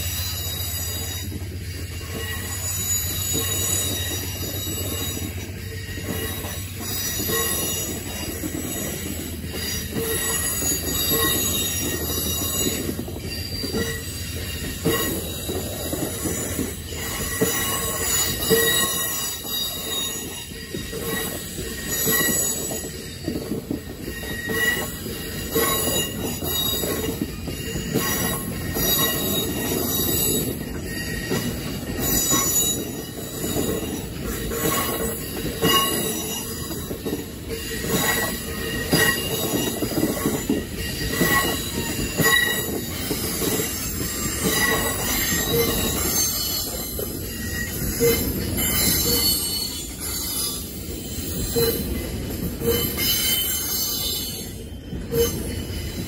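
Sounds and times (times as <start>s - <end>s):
crossing warning bell ringing: 0.0s - 56.0s
train wheels rumbling on rail: 0.0s - 56.0s
wheels clicking over rail joints: 0.0s - 56.0s.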